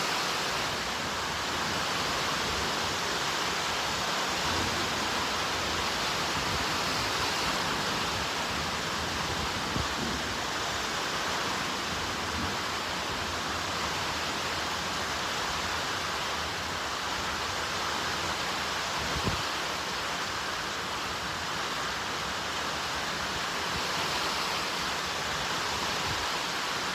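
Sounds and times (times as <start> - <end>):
heavy rain: 0.0 - 26.9.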